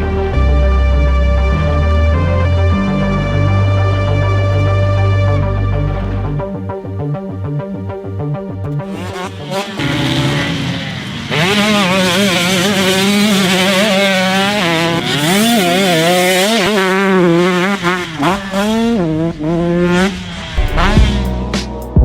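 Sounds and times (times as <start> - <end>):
dirt bike engine revving: 0.0 - 21.8.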